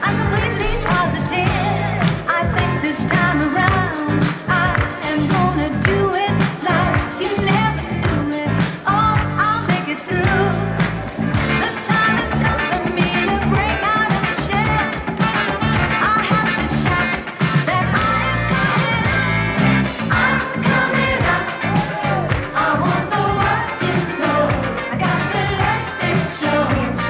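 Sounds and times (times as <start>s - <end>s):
pop song with singer: 0.0s - 27.0s.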